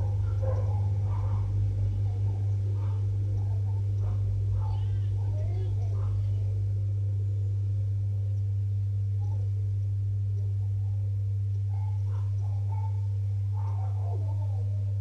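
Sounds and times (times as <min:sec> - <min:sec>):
faint voices: 0:00.0 - 0:15.0
steady low hum: 0:00.0 - 0:15.0.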